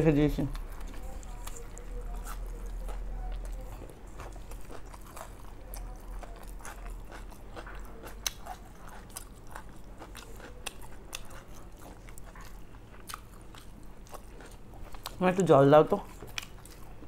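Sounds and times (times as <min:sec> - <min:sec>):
chewing and crunching food: 0:00.0 - 0:17.0
steady low hum: 0:00.0 - 0:17.0.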